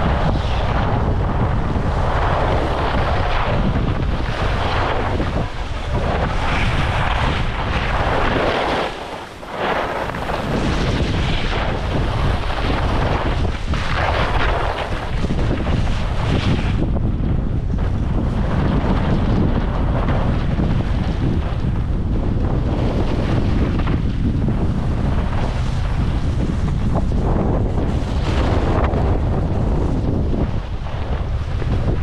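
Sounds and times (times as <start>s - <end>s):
skis scraping on snow: 0.0s - 17.1s, 22.4s - 32.0s
wind buffeting microphone: 0.0s - 32.0s.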